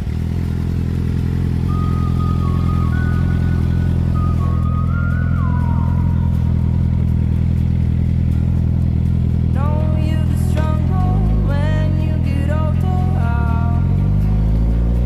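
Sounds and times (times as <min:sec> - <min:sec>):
motorcycle engine running: 0:00.0 - 0:15.0
high wavering tones: 0:01.4 - 0:14.0.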